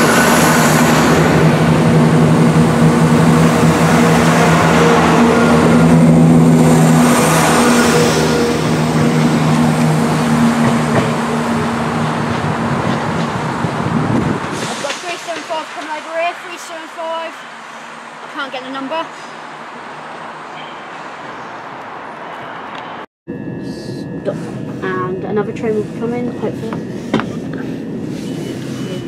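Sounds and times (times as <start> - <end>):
diesel train engine drone: 0.0 - 29.0
wheels rumbling on rail: 0.0 - 29.0.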